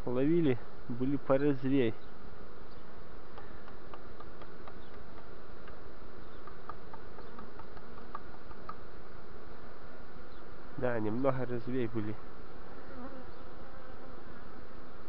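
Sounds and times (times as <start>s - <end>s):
bees buzzing: 0.6s - 15.0s.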